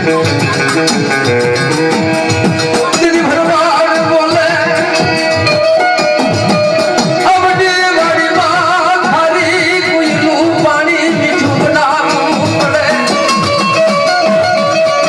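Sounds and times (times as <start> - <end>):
devotional folk music: 0.0 - 15.0
fast percussion beat: 0.0 - 15.0.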